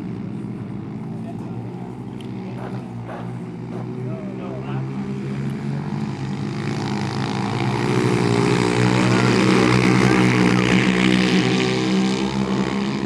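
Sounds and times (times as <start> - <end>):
pit bike engines revving: 0.0 - 13.0.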